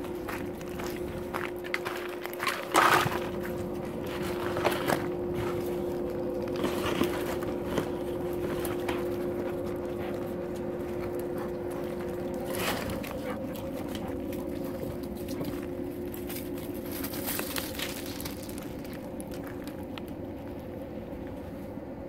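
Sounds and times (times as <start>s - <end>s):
dog paws on gravel: 0.0s - 20.8s
mechanical hum: 0.0s - 22.0s.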